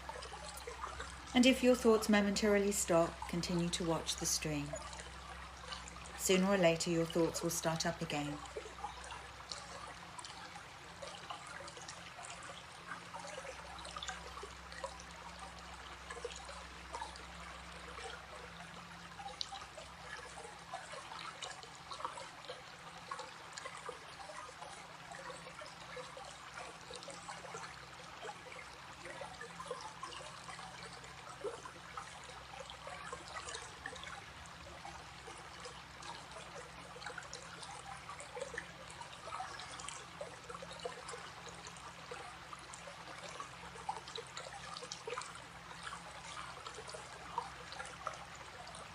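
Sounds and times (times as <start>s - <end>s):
stream trickling over stones: 0.0s - 48.9s.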